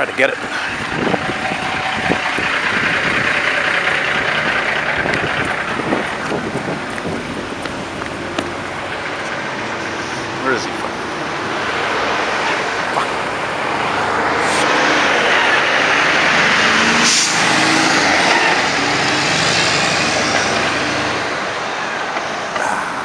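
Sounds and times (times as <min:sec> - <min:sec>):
truck passing: 0:00.0 - 0:23.0.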